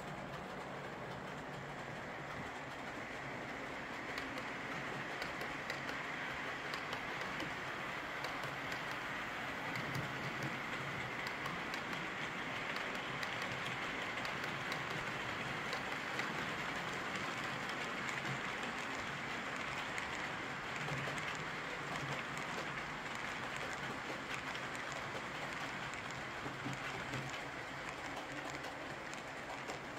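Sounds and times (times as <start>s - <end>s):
model train wheels rolling on rails: 0.0s - 29.9s
clicks at rail joints: 3.9s - 29.9s.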